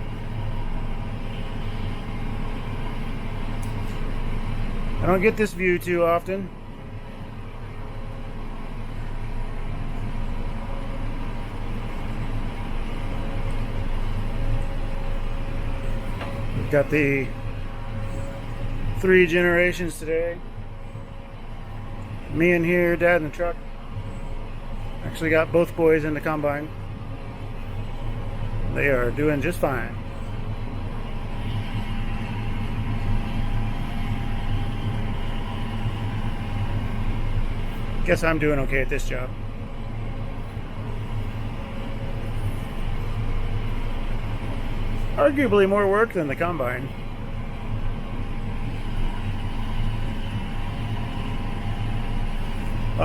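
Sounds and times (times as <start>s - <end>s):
faint steady whine: 0.0s - 53.0s
tractor engine drone: 0.0s - 53.0s.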